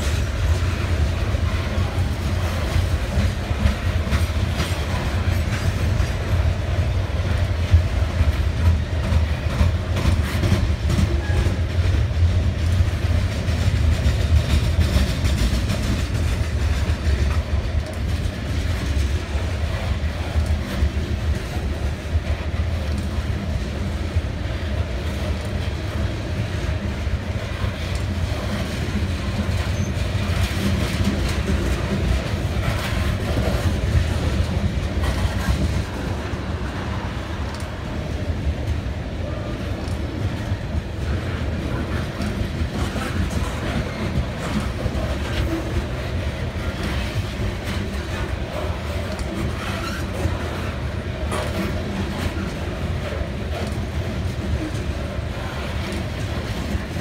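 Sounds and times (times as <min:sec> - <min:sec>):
train cars rolling past: 0:00.0 - 0:57.0
wheels clicking over rail joints: 0:00.0 - 0:57.0.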